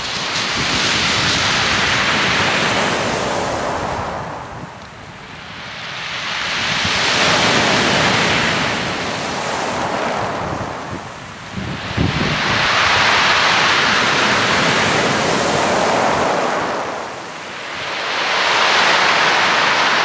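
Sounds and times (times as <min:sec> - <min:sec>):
waves washing over pebbles: 0:00.0 - 0:04.6, 0:06.2 - 0:20.0.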